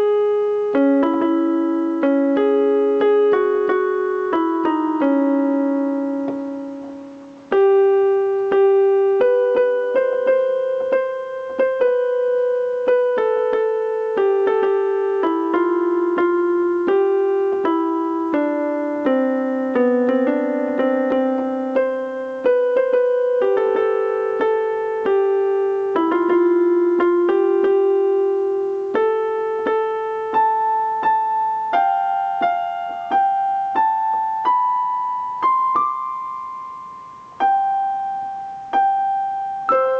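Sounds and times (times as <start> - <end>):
slow gentle keyboard melody: 0.0 - 39.9.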